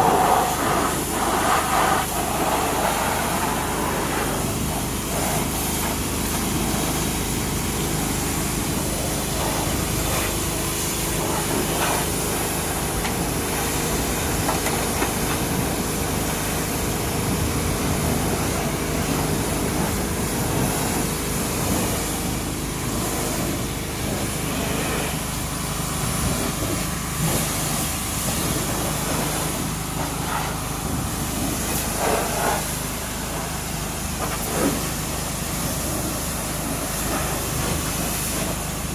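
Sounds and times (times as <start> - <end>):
water spray hissing: 0.0 - 38.8
pressure washer motor hum: 0.0 - 38.9.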